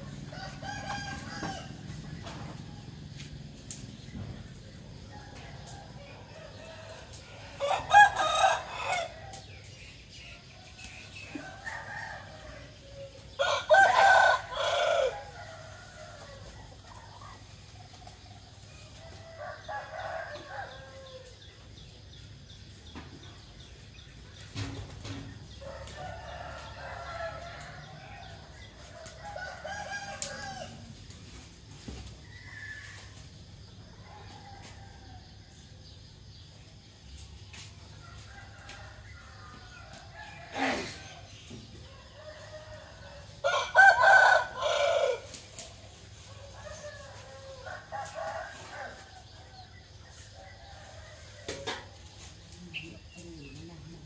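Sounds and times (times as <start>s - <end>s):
roosters crowing: 0.0s - 21.5s, 24.6s - 36.3s, 37.9s - 53.2s.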